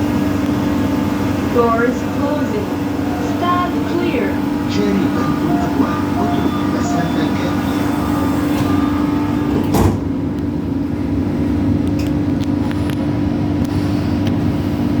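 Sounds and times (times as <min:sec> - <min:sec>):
train cabin electrical hum: 0:00.0 - 0:15.0
train running noise: 0:00.0 - 0:15.0.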